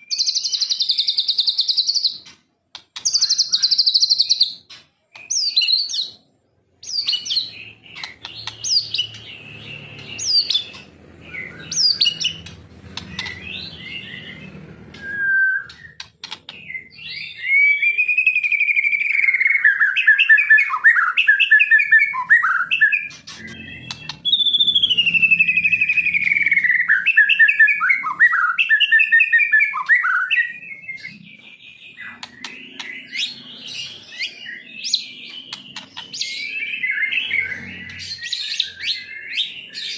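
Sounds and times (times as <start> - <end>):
songbird singing loudly: 3.0 - 4.6, 5.2 - 39.9.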